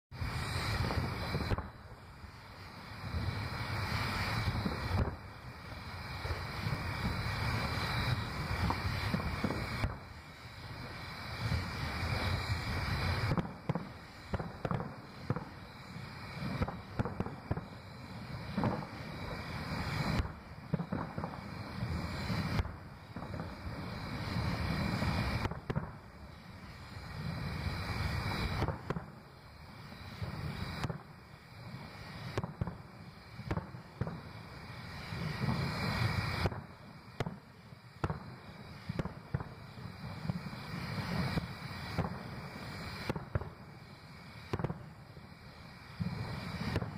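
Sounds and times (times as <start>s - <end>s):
fireworks bursting with booms: 0.1s - 46.9s.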